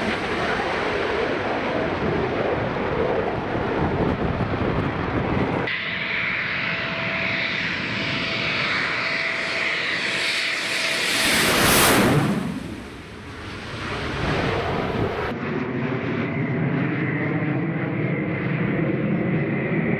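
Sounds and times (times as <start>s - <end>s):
jet engines passing by: 0.0s - 19.9s.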